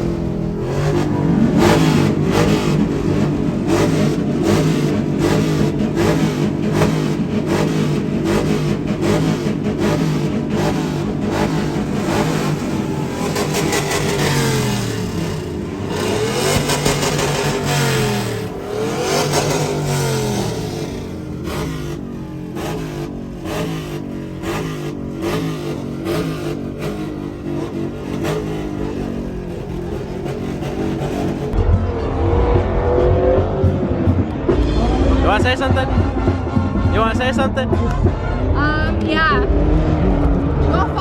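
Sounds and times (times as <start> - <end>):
vehicle engines revving: 0.0 - 41.0.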